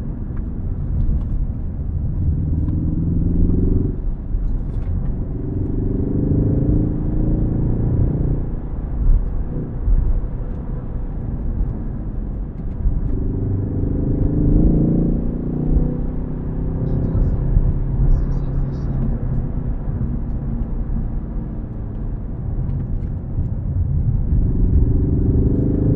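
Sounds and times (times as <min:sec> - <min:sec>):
car engine accelerating: 0:00.0 - 0:25.9
low road rumble: 0:00.0 - 0:25.9.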